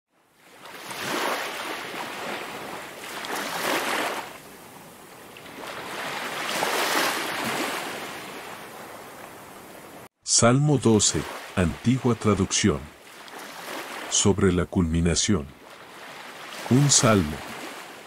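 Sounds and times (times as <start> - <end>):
ocean waves washing onto beach: 0.3 - 10.1, 10.8 - 14.4, 15.6 - 18.0.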